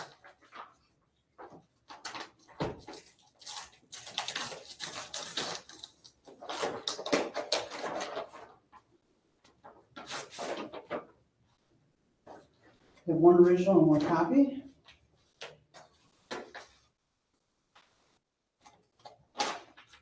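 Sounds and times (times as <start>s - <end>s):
paper rustling and crinkling: 0.0s - 8.9s, 9.5s - 11.2s, 12.3s - 16.9s, 18.6s - 20.0s.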